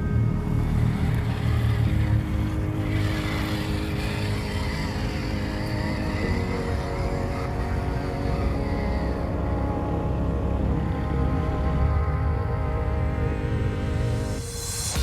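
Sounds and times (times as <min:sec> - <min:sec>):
toy truck motor rumbling: 0:00.0 - 0:12.8
steady hum: 0:00.0 - 0:15.0.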